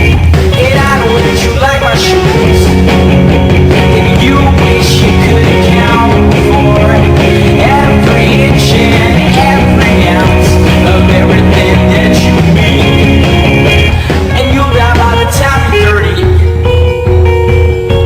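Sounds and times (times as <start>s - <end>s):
person singing: 0.0s - 16.8s
loud rock music: 0.0s - 18.0s.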